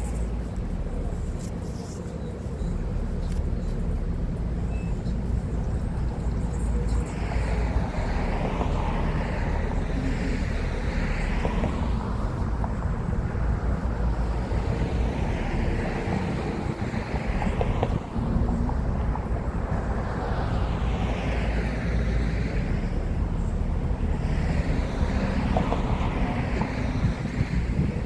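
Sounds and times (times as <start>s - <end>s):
cars passing by: 0.0s - 28.0s
road traffic rumble: 0.0s - 28.0s.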